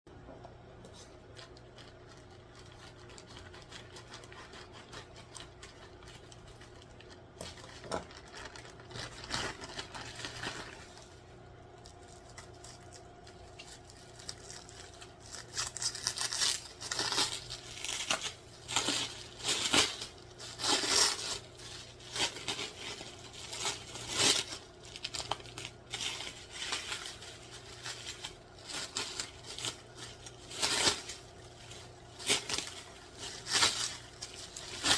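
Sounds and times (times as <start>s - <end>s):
packaging crinkling and tearing: 1.2s - 34.9s.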